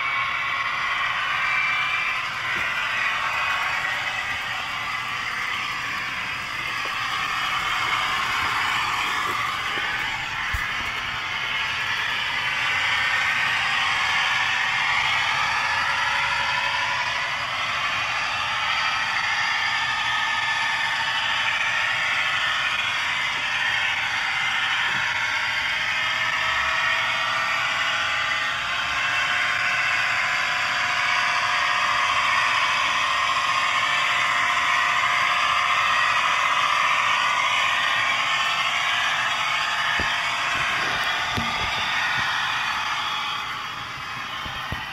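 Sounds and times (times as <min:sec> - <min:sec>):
model train diesel engine sound: 0:00.0 - 0:44.9.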